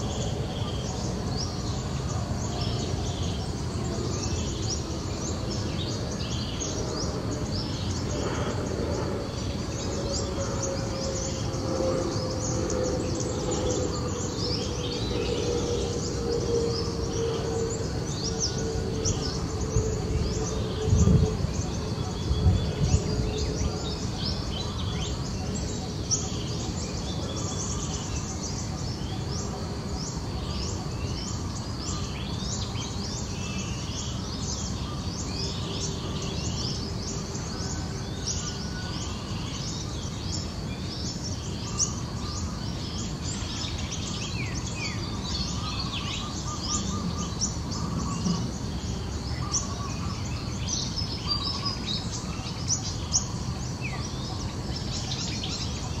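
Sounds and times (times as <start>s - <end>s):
small birds chirping: 0.0s - 56.0s
steady background hiss: 0.0s - 56.0s.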